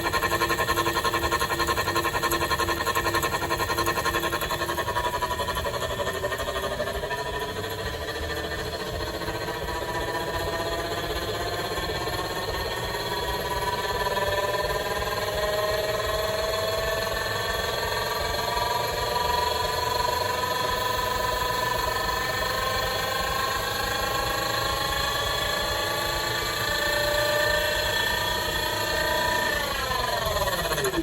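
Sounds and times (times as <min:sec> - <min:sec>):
washing machine motor whine: 0:00.0 - 0:31.0.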